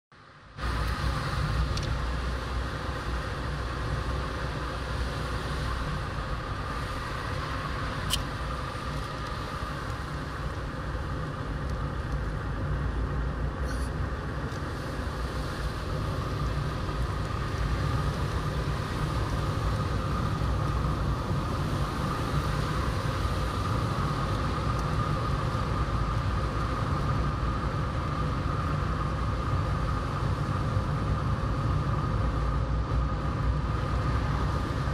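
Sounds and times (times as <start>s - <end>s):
car tyre and engine rumble: 0.1s - 34.9s.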